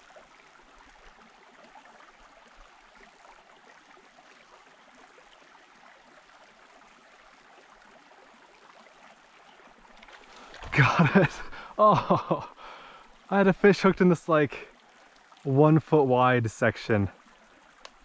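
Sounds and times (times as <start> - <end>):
creek water trickling: 0.0 - 18.0.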